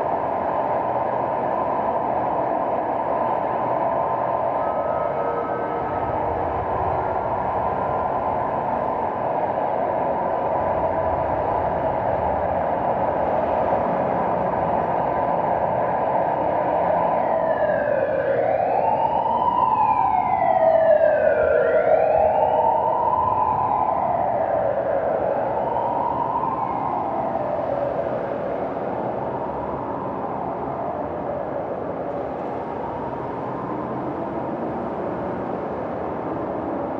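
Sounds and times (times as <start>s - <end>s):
city traffic noise: 0.0s - 36.9s
emergency vehicle siren wailing: 0.0s - 36.9s.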